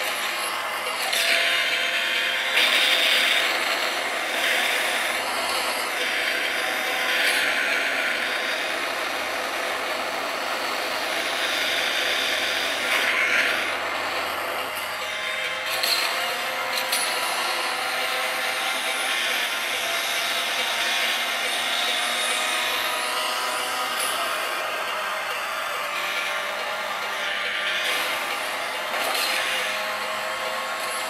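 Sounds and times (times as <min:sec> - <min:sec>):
video game car engine: 0:00.0 - 0:31.0.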